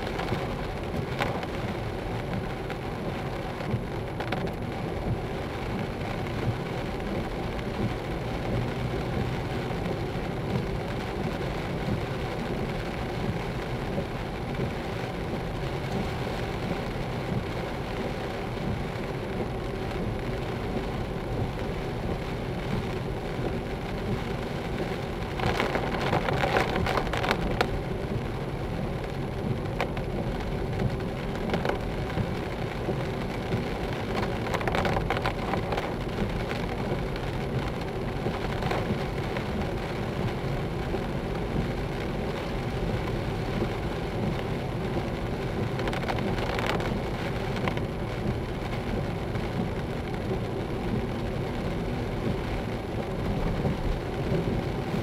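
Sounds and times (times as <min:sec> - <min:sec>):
rain on car windscreen and roof: 0:00.0 - 0:55.0
tyres hissing on wet road: 0:00.0 - 0:55.0.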